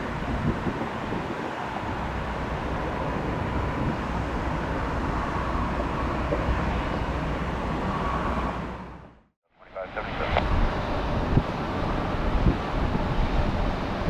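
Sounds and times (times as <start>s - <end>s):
jet engine rumble: 0.0s - 14.0s
wind: 0.0s - 14.0s.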